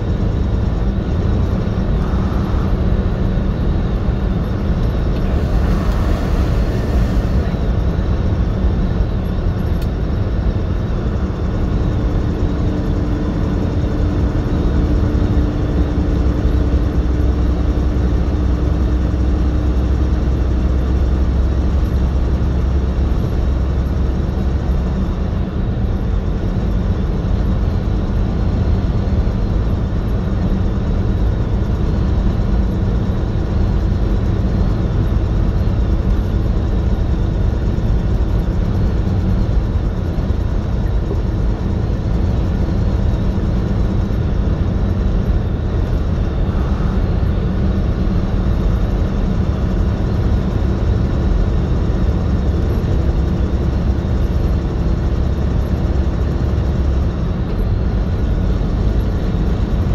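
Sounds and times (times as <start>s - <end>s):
higher steady hum: 0.0s - 59.9s
truck engine and tyre rumble: 0.0s - 59.9s.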